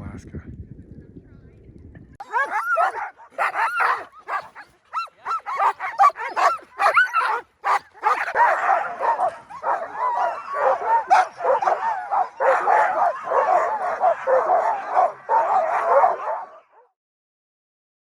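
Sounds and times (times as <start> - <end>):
dogs howling chorus: 2.2 - 16.9
sled dogs yipping and barking: 2.2 - 16.9.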